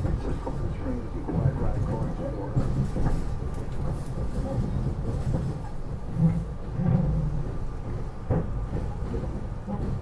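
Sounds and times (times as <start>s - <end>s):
train car rumbling in motion: 0.0s - 10.0s.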